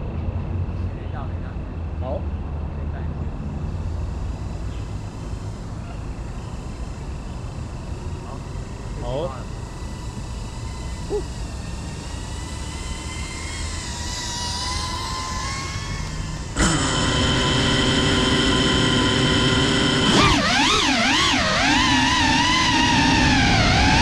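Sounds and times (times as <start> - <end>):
quadcopter motors whining: 3.0 - 24.0.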